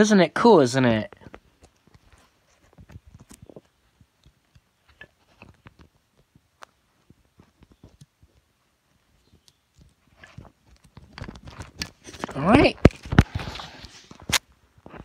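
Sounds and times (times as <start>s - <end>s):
hands handling cord and packaging: 1.1s - 15.0s.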